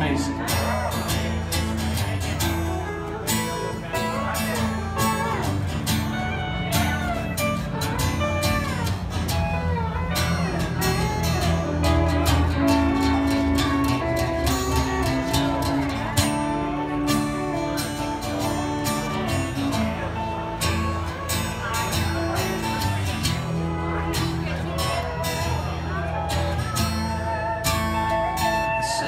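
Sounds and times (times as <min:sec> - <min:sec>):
pedal steel guitar sliding notes: 0:00.0 - 0:29.0
strummed acoustic guitar: 0:00.0 - 0:29.0.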